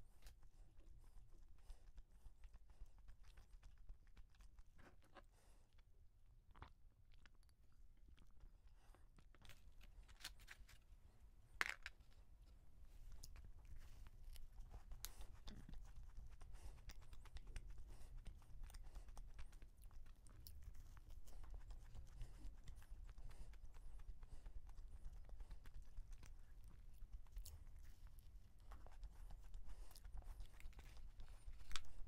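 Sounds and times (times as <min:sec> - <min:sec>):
chewing crunchy donut: 0:02.5 - 0:10.6, 0:13.2 - 0:32.0.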